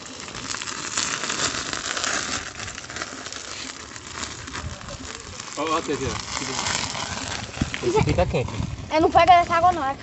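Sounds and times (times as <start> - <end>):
wax crackling in fire: 0.0 - 10.0.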